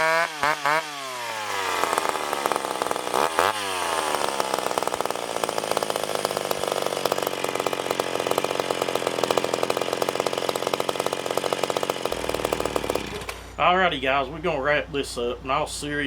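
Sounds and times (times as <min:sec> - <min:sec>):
chainsaw engine idling: 0:00.0 - 0:13.5.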